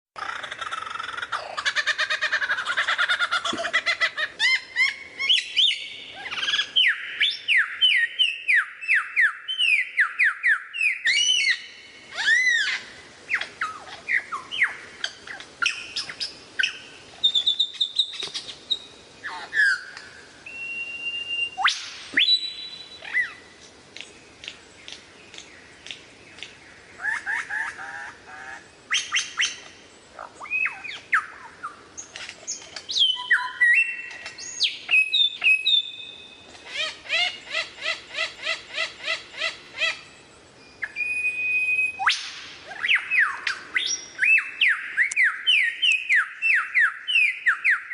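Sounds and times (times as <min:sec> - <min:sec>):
lyrebird singing: 0:00.2 - 0:47.9.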